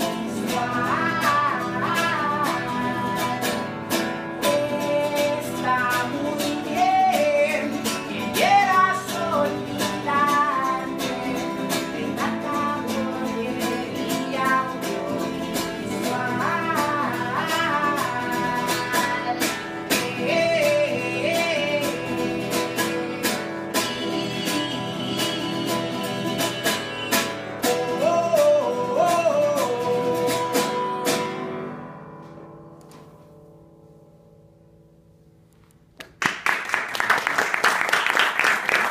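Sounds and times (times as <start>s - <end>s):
strummed guitars: 0.0s - 35.9s.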